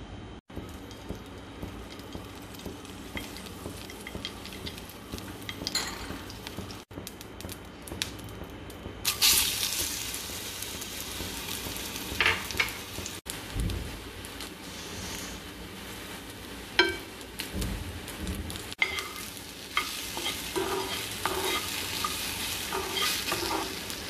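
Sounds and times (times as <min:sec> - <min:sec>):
frying sizzle: 0:00.5 - 0:24.0.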